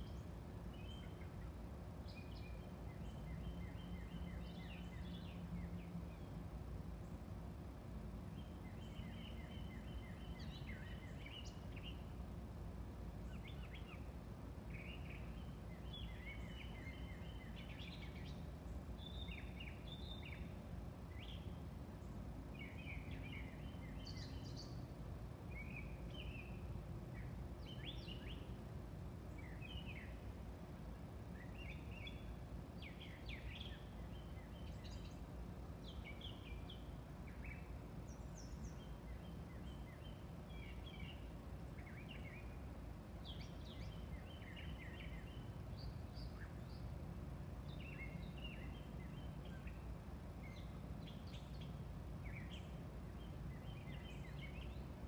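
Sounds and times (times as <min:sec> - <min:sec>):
low background noise: 0:00.0 - 0:55.0.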